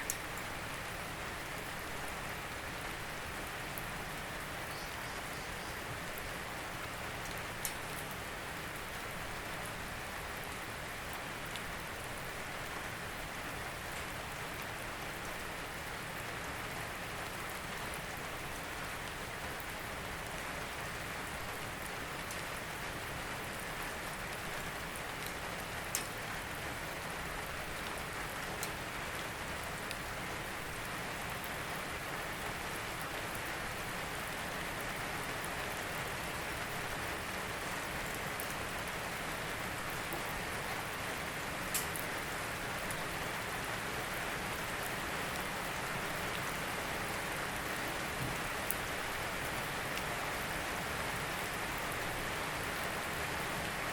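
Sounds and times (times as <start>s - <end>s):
raindrops striking a surface: 0.0s - 53.9s
steady rain falling: 0.0s - 53.9s.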